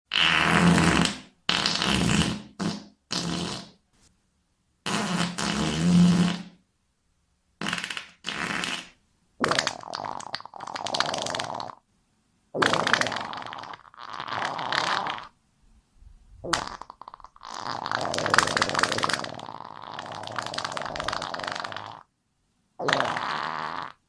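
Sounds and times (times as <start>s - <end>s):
fart sounds: 0.1s - 3.8s, 4.8s - 6.6s, 7.6s - 11.8s, 12.6s - 15.4s, 16.4s - 22.1s, 22.8s - 24.0s.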